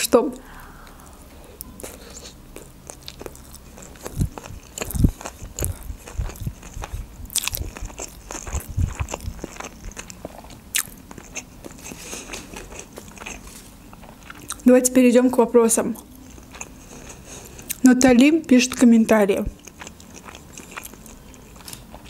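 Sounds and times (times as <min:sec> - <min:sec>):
chewing and crunching: 0:01.6 - 0:15.0, 0:15.8 - 0:22.0.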